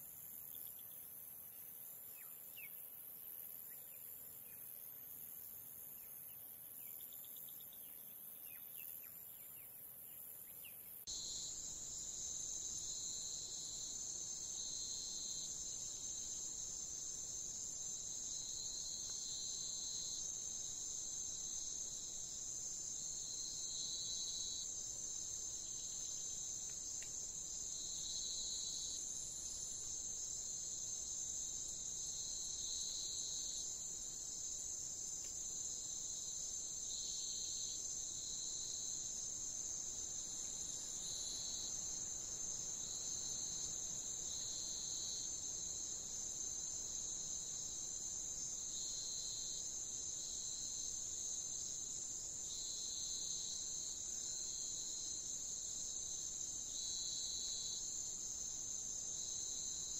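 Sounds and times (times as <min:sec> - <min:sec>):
lower insect trill: 0:00.0 - 0:59.9.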